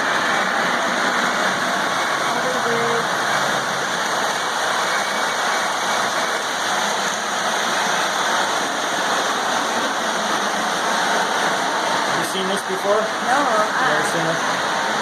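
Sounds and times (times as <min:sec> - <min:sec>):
model train wheels rolling on track: 0:00.0 - 0:15.0.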